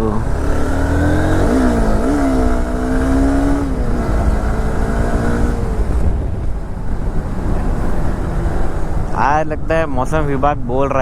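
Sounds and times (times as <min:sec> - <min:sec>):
motorcycle engine pulling: 0:00.0 - 0:08.8
low wind rumble on microphone: 0:00.0 - 0:11.0.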